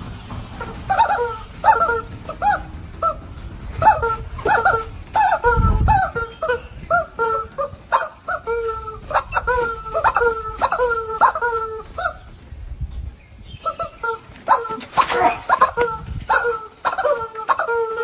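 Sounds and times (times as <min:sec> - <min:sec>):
rubber chicken toy squawking: 0:00.6 - 0:12.3, 0:13.6 - 0:18.0.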